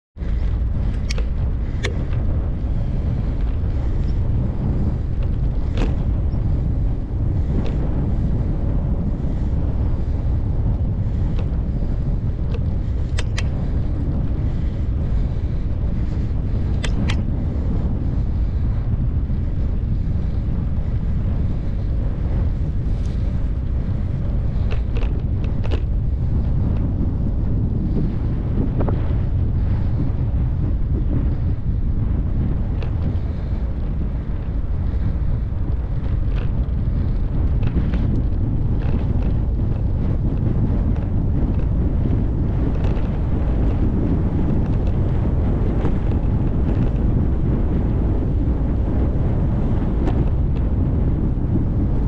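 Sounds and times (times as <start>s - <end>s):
wind buffeting microphone: 0.2s - 52.0s.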